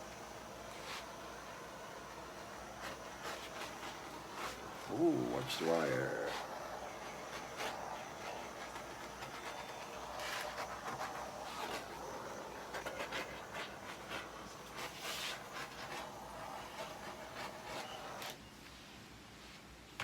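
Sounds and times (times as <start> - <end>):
rubbing and scraping on hard surface: 0.7 - 18.4.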